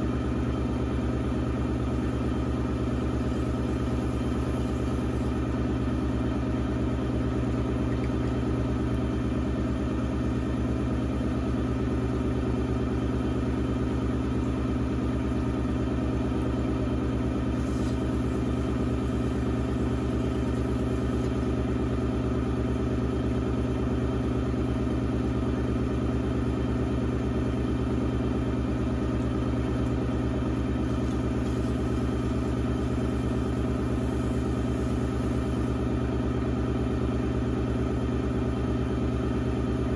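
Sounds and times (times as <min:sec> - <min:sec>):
potter's wheel motor hum: 0:00.0 - 0:39.9.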